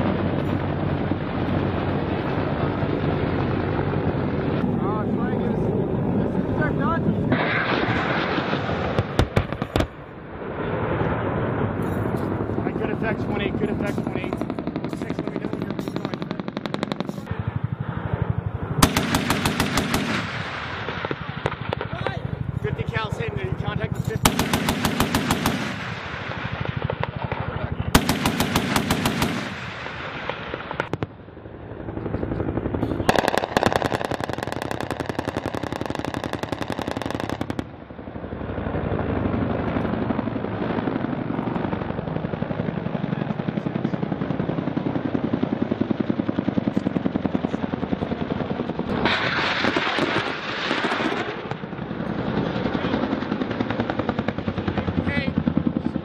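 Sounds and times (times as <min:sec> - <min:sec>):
rapid automatic cannon fire: 0:07.2 - 0:31.2, 0:31.8 - 0:56.0.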